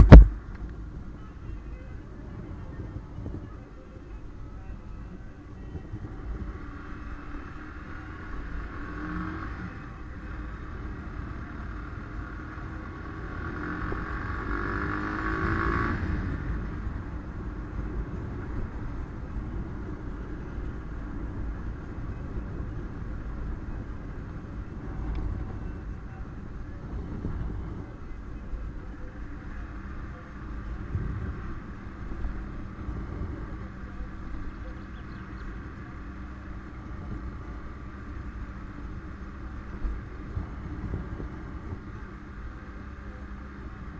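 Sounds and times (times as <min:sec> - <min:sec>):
car engine and road rumble: 0:00.0 - 0:43.9.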